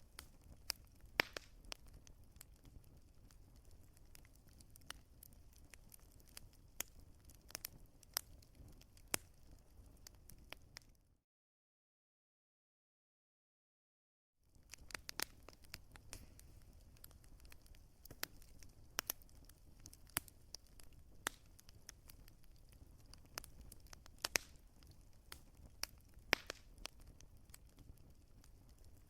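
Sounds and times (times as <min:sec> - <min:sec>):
wood fire crackling: 0:00.0 - 0:11.0, 0:14.5 - 0:29.0.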